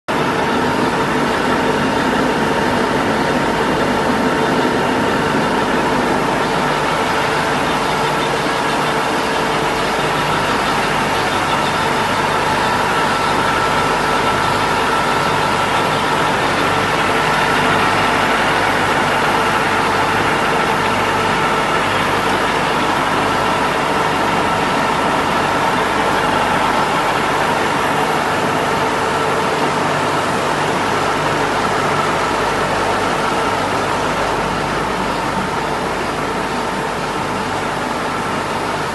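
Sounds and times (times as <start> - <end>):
printing press mechanical din: 0.1 - 38.9
steady humming tones: 0.1 - 38.9.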